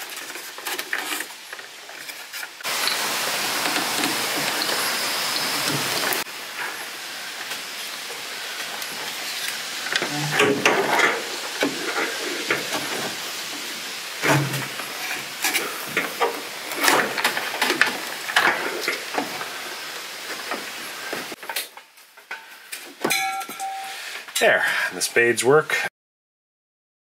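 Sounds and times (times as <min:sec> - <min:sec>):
steady hiss: 0:00.0 - 0:25.8.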